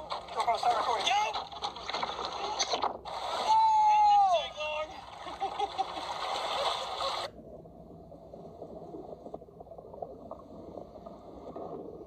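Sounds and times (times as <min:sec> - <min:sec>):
muffled underwater gurgling: 0:00.0 - 0:12.0
water splashing: 0:00.0 - 0:12.0.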